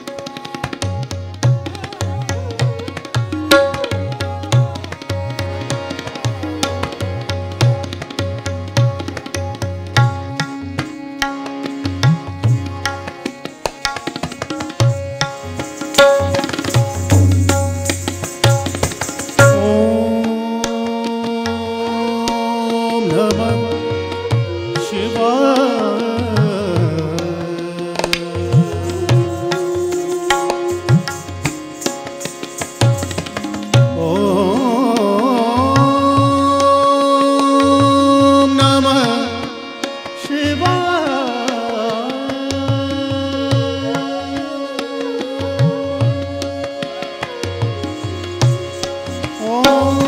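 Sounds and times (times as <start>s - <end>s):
tabla playing: 0.0s - 50.0s.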